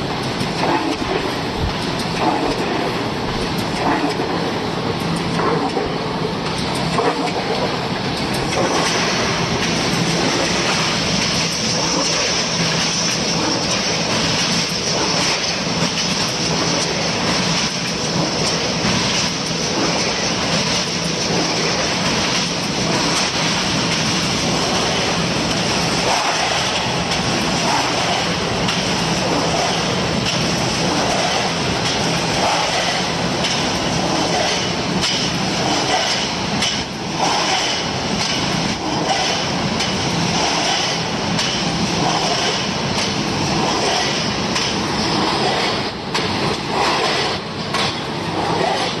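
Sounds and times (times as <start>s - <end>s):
machine mechanical clatter: 0.0s - 49.0s.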